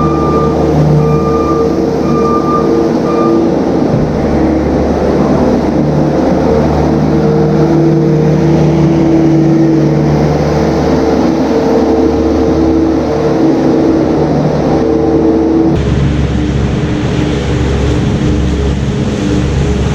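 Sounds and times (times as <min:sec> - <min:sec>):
farm vehicle engine under load: 0:00.0 - 0:19.9.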